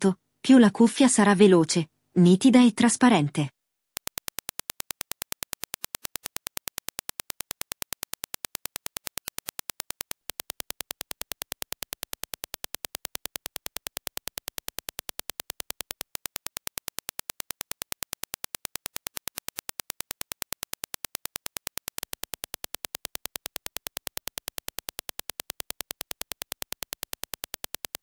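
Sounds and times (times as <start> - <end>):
rapid train of sharp clicks: 4.0 - 28.0.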